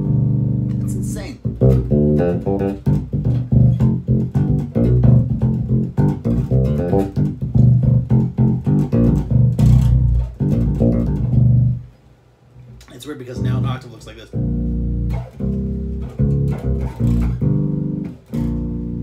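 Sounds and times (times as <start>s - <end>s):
electric bass quick plucked notes: 0.0s - 11.9s, 13.4s - 19.0s.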